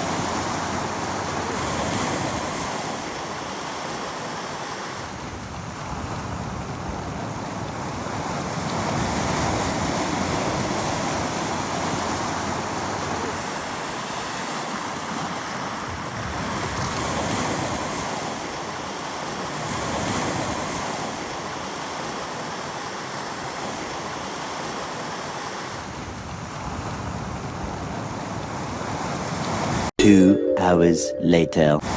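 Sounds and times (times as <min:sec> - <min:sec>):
wind on microphone: 0:00.0 - 0:21.8, 0:25.7 - 0:29.9
small waves washing on beach: 0:00.0 - 0:29.9.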